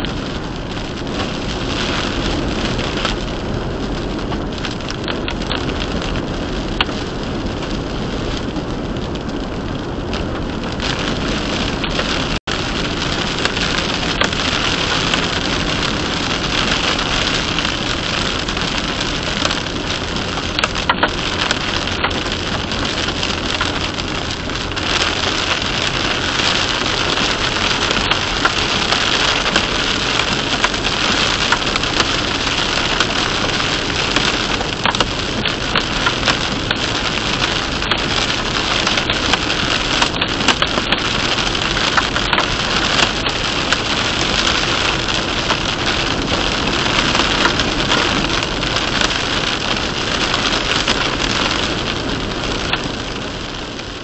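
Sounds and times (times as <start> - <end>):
heavy rain on car: 0.0 - 54.0
tyres hissing on wet road: 10.7 - 54.0.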